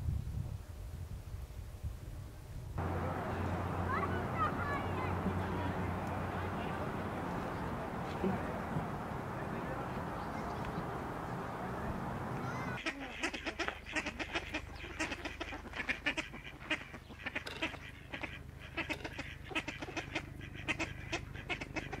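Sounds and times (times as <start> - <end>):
sparrows chirping: 2.8 - 22.0.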